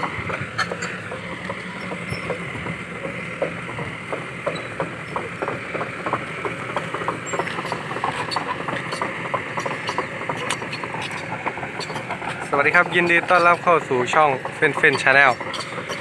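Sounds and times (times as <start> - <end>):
diesel engine: 0.0 - 16.0
track links clanking and creaking: 0.0 - 16.0.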